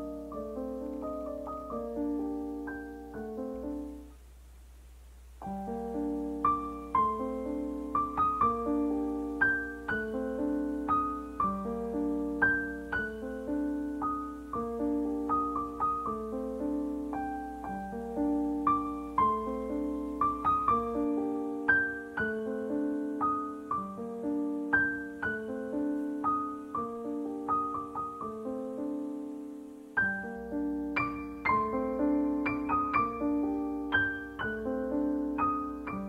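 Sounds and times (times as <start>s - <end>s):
gentle piano music: 0.0s - 4.2s, 5.3s - 36.0s.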